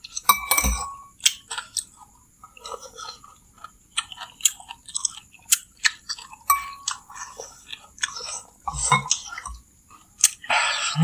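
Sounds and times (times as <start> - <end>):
people chewing: 1.2 - 11.0.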